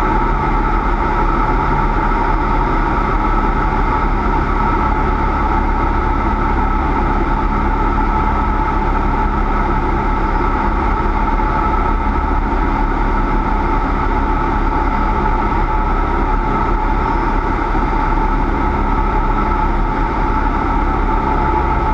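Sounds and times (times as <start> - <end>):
light aircraft engine and propeller: 0.0 - 21.9.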